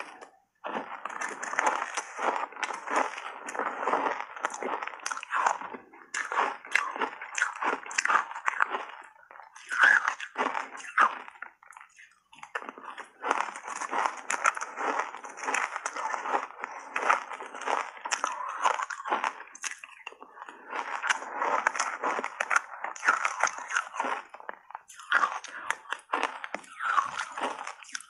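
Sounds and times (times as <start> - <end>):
crunching and chewing ice: 0.0 - 28.0.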